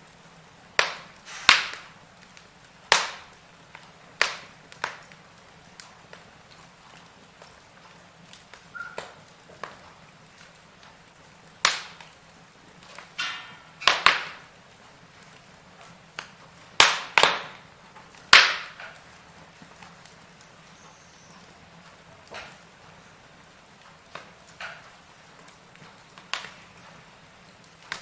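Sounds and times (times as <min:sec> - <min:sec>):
faint steady background noise: 0:00.0 - 0:28.0
sharp pops of burning wood: 0:00.0 - 0:28.0
wood fire crackling: 0:00.0 - 0:28.0.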